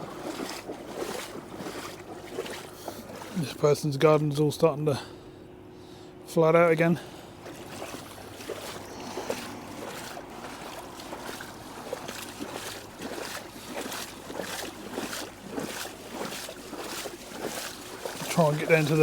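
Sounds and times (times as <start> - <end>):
footsteps on icy wet ground: 0.0 - 3.6, 7.2 - 19.0.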